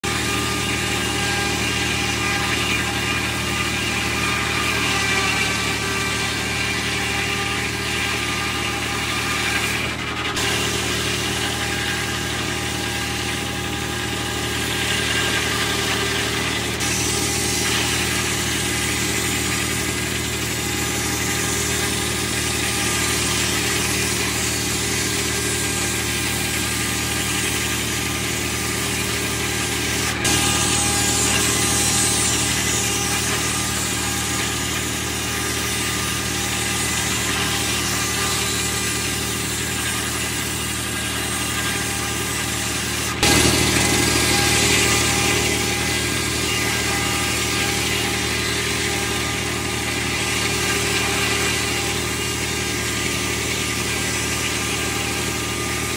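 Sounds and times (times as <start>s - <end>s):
circular saw hissing through wood: 0.0s - 55.9s.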